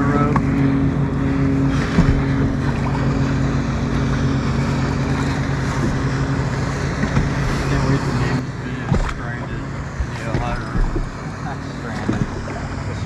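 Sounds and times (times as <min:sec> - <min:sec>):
boat engine running: 0:00.0 - 0:13.0
water noise: 0:00.0 - 0:13.0
wind: 0:00.0 - 0:13.0.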